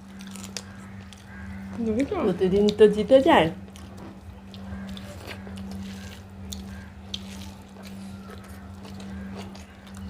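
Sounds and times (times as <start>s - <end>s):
eating by hand: 0.0s - 10.0s
steady low hum: 0.0s - 10.0s.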